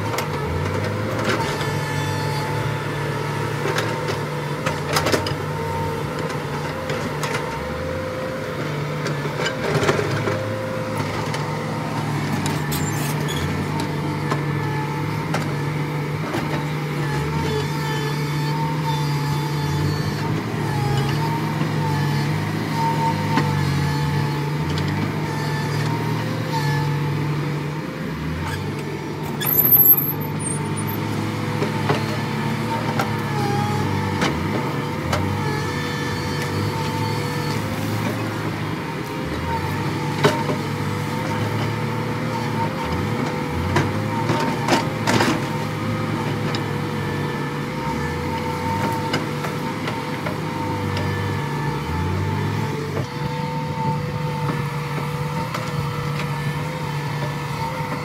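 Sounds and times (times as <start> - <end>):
excavator diesel engine running: 0.0 - 58.0
hydraulic whine: 0.4 - 58.0.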